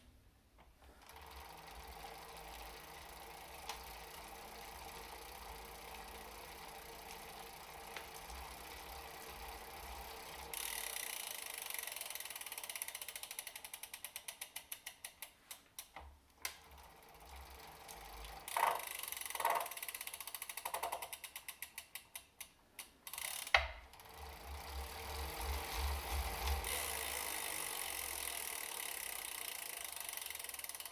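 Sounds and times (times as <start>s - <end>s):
bike trainer drivetrain running: 1.0s - 15.3s, 16.3s - 22.3s, 23.1s - 30.9s
freehub ratchet ticking: 1.0s - 30.9s.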